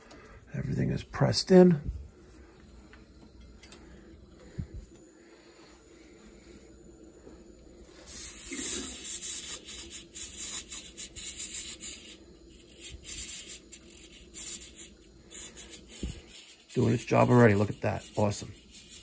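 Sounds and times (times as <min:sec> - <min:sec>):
air hissing from a vent: 0:00.0 - 0:19.0.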